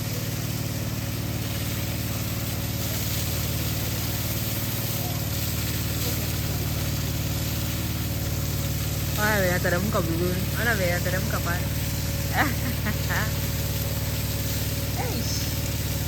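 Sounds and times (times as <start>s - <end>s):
flowing water: 0.0s - 16.0s
motor humming: 0.0s - 16.0s.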